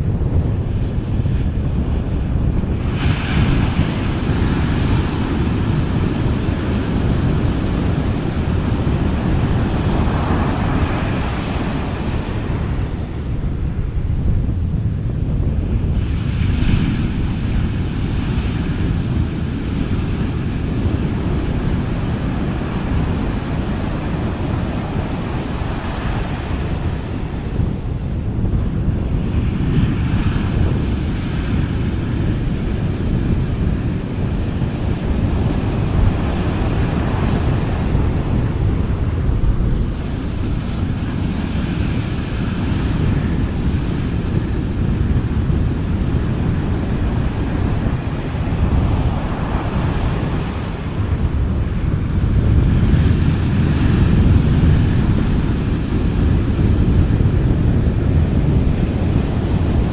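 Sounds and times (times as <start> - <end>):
low rumble of surf: 0.0 - 59.9
wind buffeting microphone: 0.0 - 59.9
sea waves washing onto beach: 0.6 - 14.1, 14.9 - 59.9.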